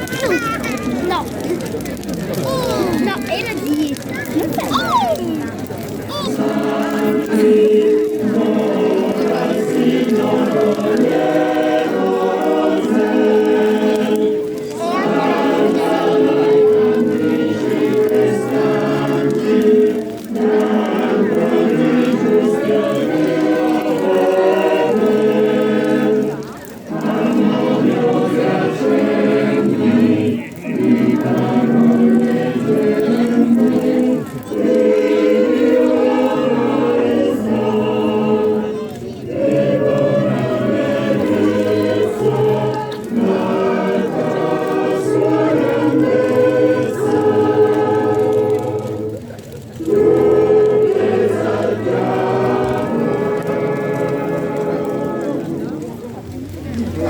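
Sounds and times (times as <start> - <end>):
choir singing a hymn: 6.3 - 56.1.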